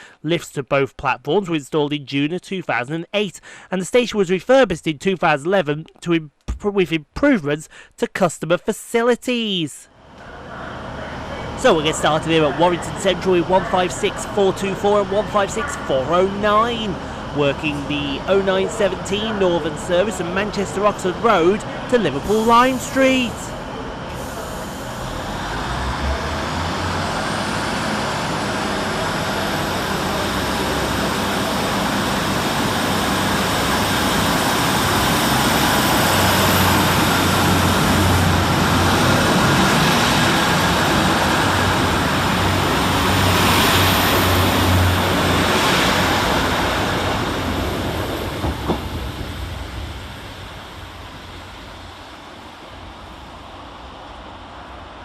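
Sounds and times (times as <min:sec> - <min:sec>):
diesel train engine drone: 0:09.9 - 0:55.0.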